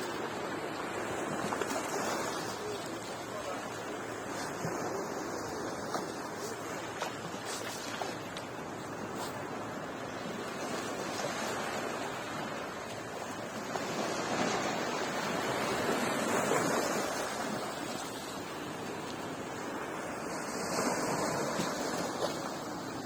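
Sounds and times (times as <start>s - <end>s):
waves washing onto beach: 0.0s - 23.0s.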